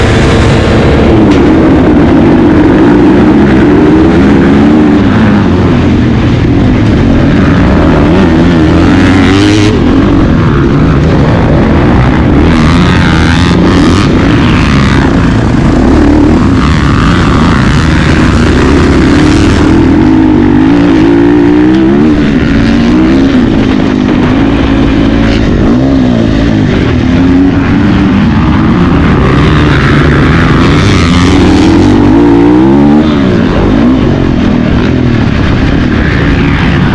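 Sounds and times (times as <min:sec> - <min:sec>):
motocross bikes racing: 0:00.0 - 0:36.9.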